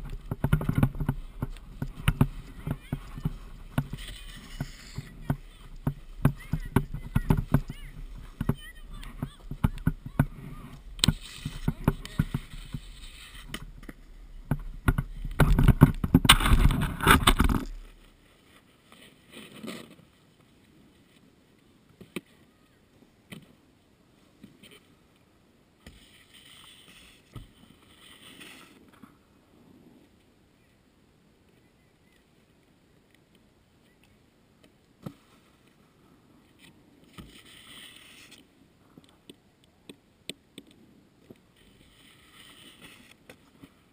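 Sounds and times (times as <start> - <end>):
skis sliding over packed snow: 0.0 - 30.8, 34.9 - 39.8, 40.8 - 43.9.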